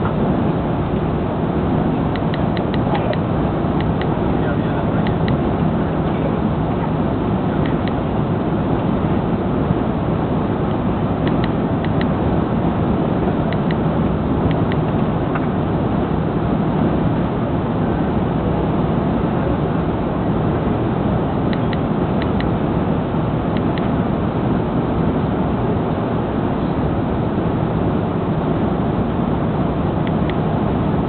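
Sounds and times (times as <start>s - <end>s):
aircraft cabin engine rush: 0.0s - 31.0s.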